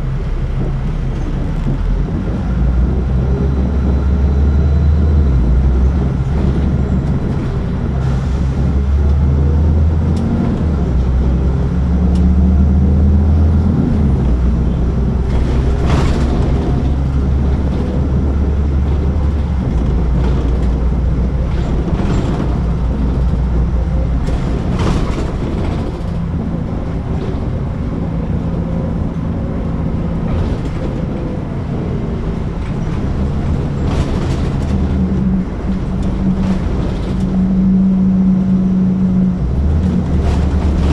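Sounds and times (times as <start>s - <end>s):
bus engine hum: 0.0s - 40.9s.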